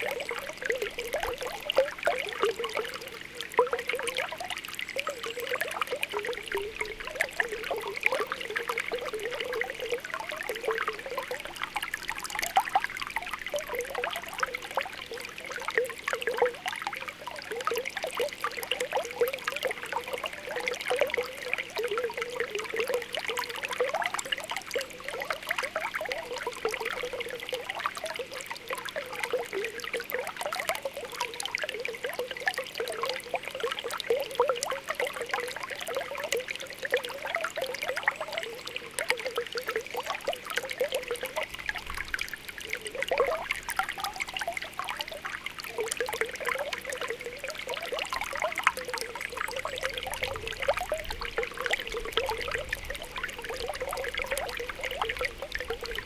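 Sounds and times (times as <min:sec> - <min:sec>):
water bubbling and popping: 0:00.0 - 0:56.0
water trickling: 0:00.0 - 0:56.0.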